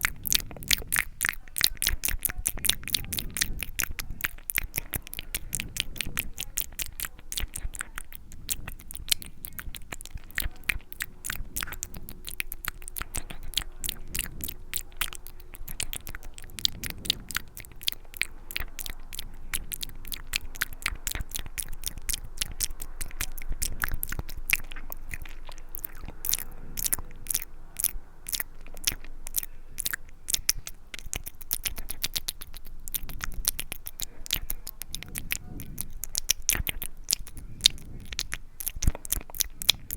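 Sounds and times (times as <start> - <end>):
mouth clicks and smacks: 0.0 - 39.9.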